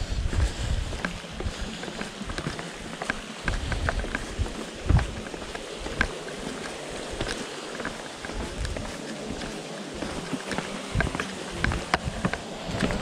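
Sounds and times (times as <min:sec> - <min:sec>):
footsteps on stone steps: 0:00.0 - 0:13.0
wind rumble on microphone: 0:00.0 - 0:13.0
trekking poles clicking on stone: 0:00.8 - 0:13.0.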